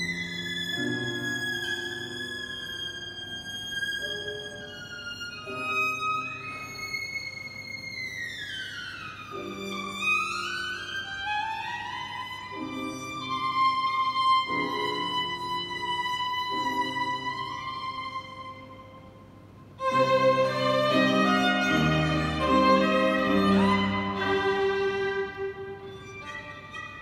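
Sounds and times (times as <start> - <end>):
piano chords: 0.0 - 7.9, 9.0 - 27.0
solo violin: 0.0 - 27.0.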